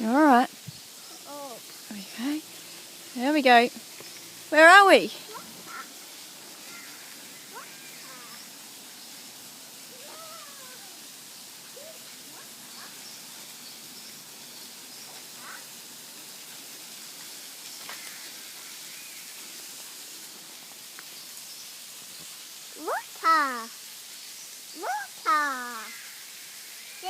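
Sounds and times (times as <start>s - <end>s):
waterfall rushing hiss: 0.0s - 27.0s.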